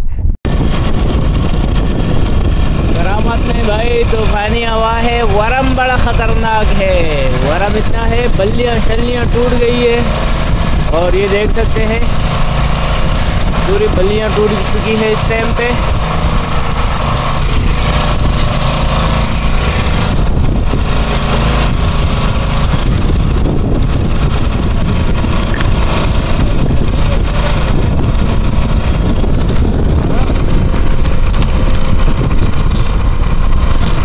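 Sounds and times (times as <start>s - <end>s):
strong wind buffeting microphone: 0.0s - 34.0s.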